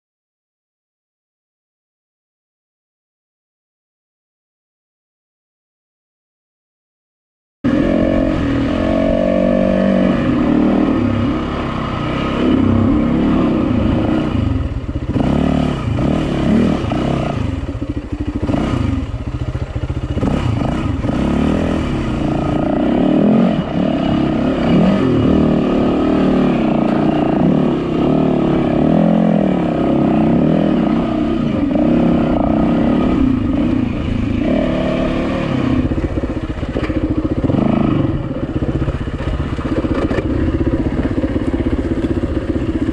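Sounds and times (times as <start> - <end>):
dirt bike engine revving: 7.7 - 42.9.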